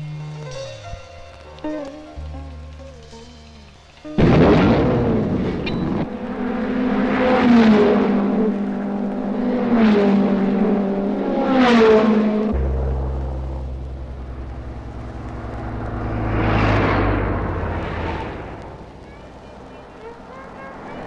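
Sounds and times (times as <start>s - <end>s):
steady low hum: 0.0s - 21.0s
cars speeding past: 3.9s - 21.0s.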